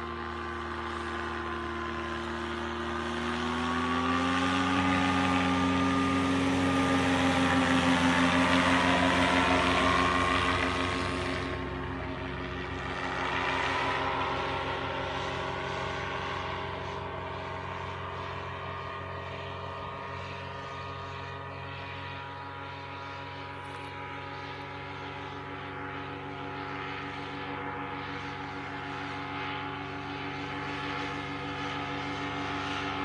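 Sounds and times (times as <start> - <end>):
propeller aircraft engine drone: 0.0 - 33.0.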